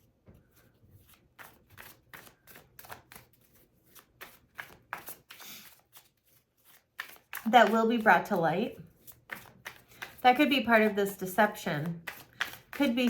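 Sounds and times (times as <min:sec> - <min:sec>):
cards shuffling: 0:00.4 - 0:13.0.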